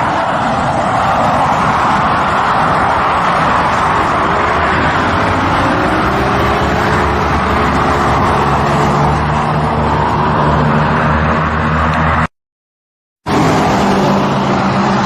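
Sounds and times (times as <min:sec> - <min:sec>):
continuous rushing noise: 0:00.0 - 0:12.3, 0:13.3 - 0:15.0.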